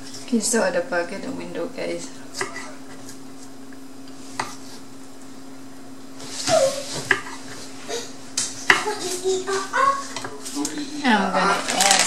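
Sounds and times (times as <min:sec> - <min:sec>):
kitchen room hum: 0:00.0 - 0:12.0.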